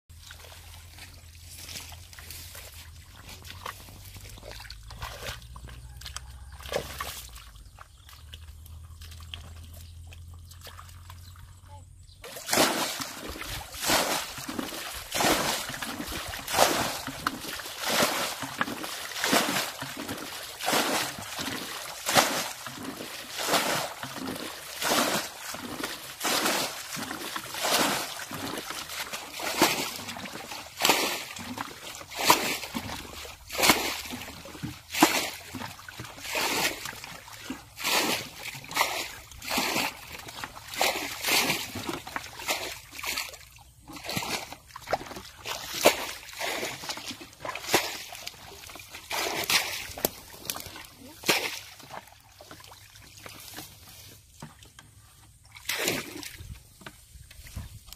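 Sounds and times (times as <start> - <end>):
buckets scooping and splashing water: 0.1 - 57.9.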